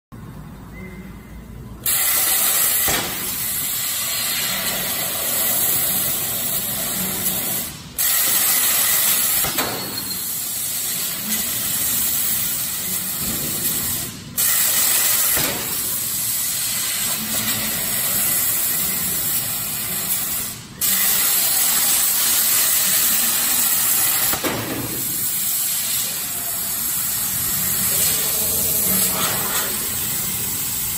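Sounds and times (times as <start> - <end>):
plasma arc hissing: 1.8 - 30.9.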